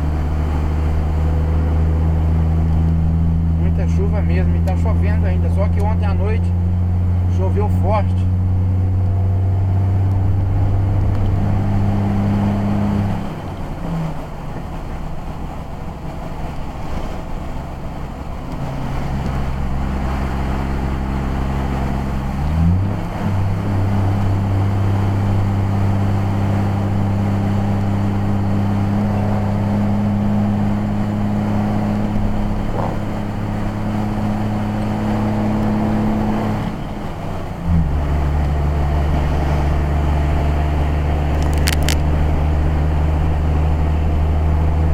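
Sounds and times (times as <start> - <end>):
car engine running: 0.0 - 44.9
road noise inside car: 0.0 - 44.9.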